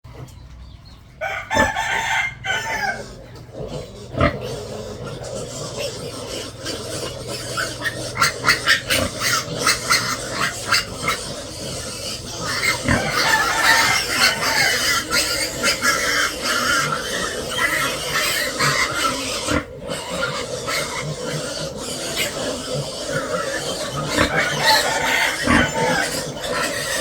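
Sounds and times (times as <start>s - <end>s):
pigs calling: 0.1s - 27.0s.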